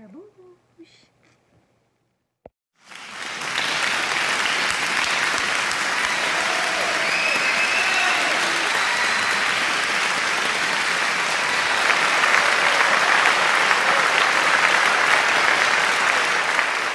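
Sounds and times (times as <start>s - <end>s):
crowd applause: 2.8s - 16.9s.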